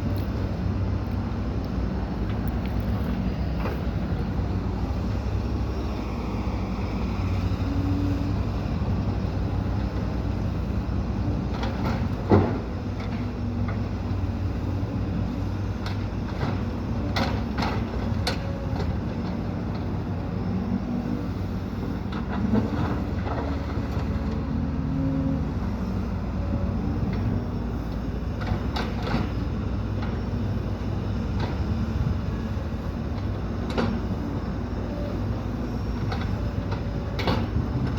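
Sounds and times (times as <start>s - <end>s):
diesel engines running: 0.0s - 37.9s.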